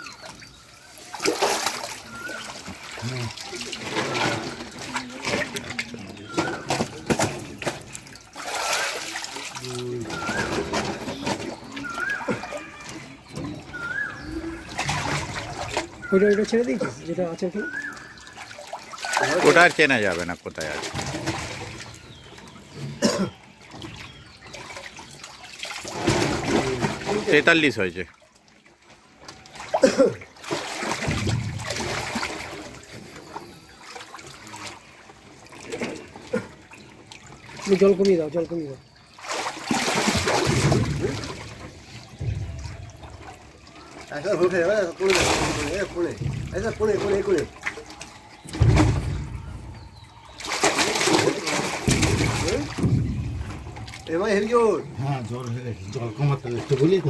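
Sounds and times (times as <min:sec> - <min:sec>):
water splashing in a tank: 0:00.0 - 0:57.0.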